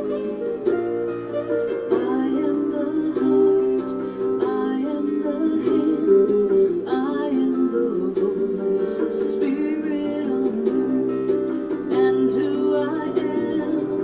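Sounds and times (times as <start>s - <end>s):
plucked string accompaniment: 0.0s - 14.0s
person singing: 1.6s - 14.0s.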